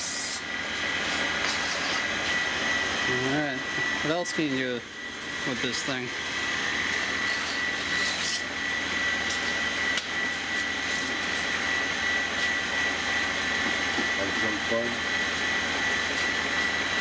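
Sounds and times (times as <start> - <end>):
grinder motor whining: 0.0 - 17.0.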